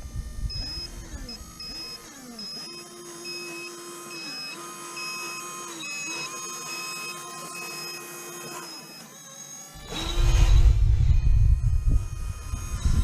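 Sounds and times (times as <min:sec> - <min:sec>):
small electric motor whine: 0:00.0 - 0:13.0.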